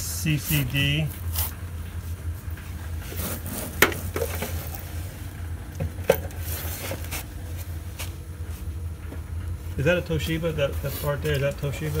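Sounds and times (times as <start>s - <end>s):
steady low hum: 0.0s - 12.0s
cables and equipment handling: 0.5s - 12.0s.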